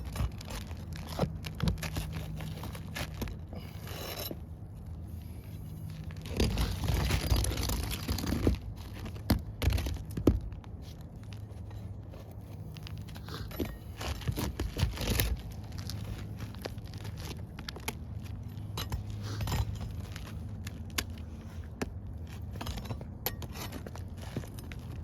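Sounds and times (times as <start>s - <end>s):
scraping and crunching shingles: 0.0s - 25.0s.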